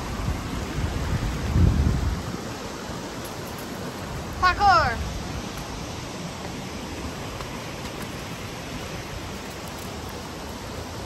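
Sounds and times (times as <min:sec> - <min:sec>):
river rushing over boulders: 0:00.0 - 0:11.0.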